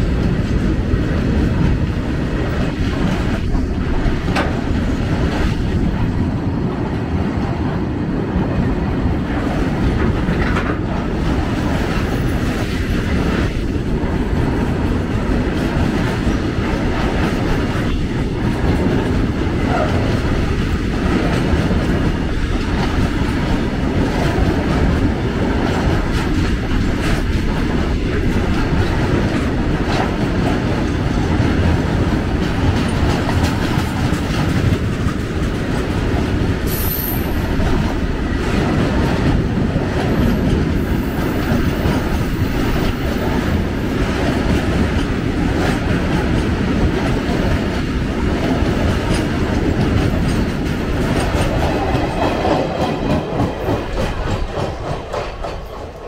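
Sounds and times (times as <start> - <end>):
wheels clacking over rail joints: 0.0 - 6.5, 8.6 - 56.0
freight train rumbling past: 0.0 - 56.0.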